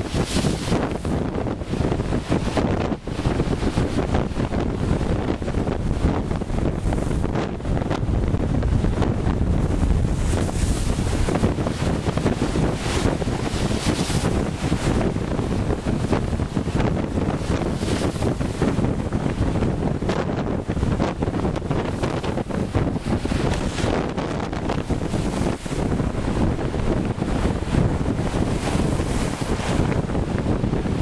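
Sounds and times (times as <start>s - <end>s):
blizzard wind buffeting microphone: 0.0s - 31.0s
hissing wind gusts: 0.0s - 31.0s.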